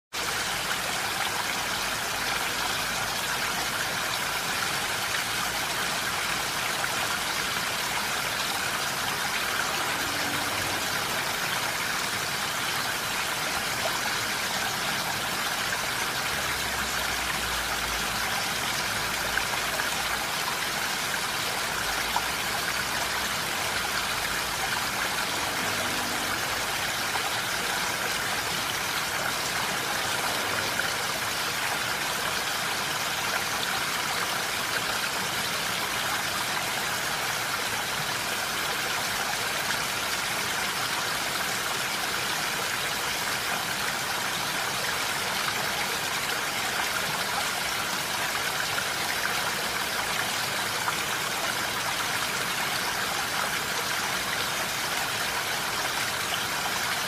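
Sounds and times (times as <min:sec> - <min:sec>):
stream water rushing: 0:00.2 - 0:57.0.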